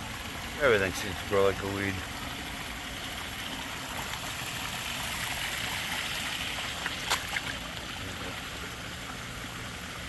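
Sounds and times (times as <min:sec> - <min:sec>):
water splashing down waterfall: 0:00.0 - 0:10.0.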